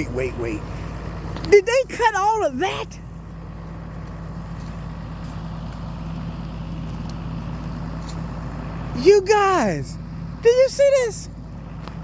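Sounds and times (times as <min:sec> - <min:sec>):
tractor engine humming: 0:00.0 - 0:12.0.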